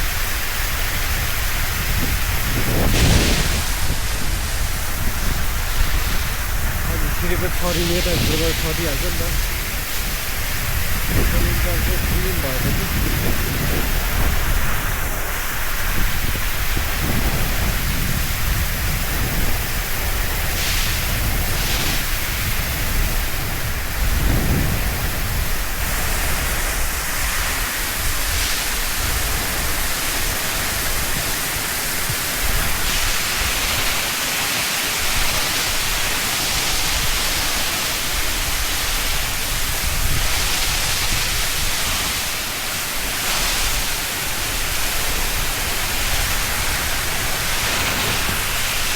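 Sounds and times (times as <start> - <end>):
hose spraying water on concrete: 0.0 - 48.9.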